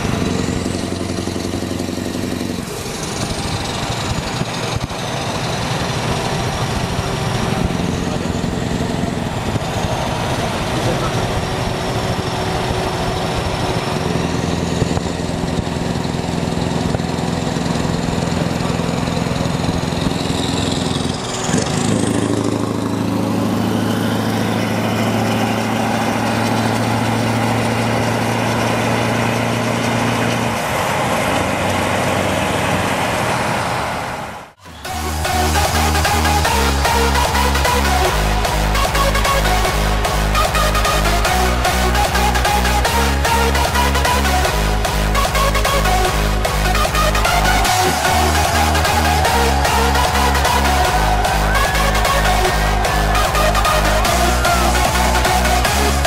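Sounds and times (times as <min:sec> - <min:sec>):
truck diesel engines droning: 0:00.0 - 0:56.0.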